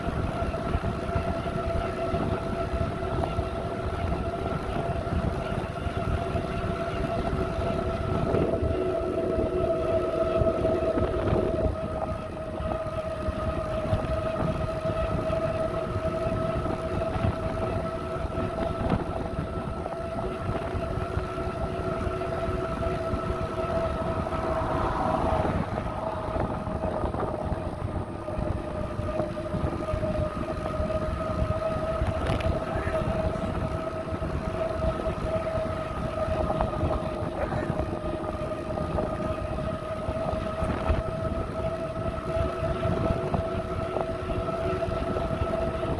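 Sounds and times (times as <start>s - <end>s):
steady whine: 0.0s - 45.9s
wind and tyre rumble: 0.0s - 45.9s.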